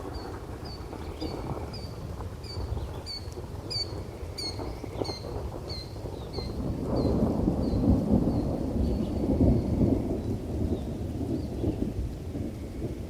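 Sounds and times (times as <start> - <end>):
steady rain with low rumble: 0.0 - 13.0.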